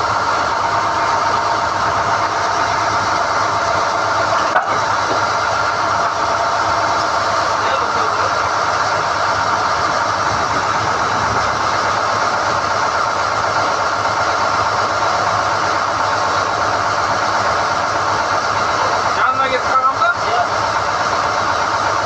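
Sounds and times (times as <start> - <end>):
drilling rig engine running: 0.0 - 22.0.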